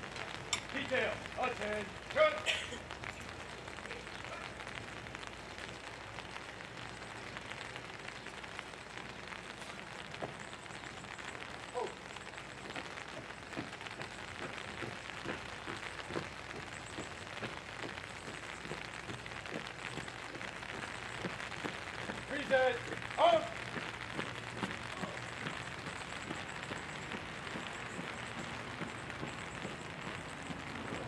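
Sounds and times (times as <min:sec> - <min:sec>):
rain-like hiss: 0:00.0 - 0:31.0.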